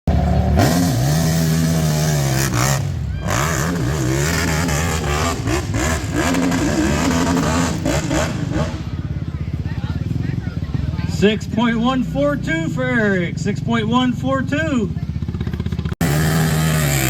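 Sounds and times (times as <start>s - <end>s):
quad engine revving: 0.1s - 17.0s.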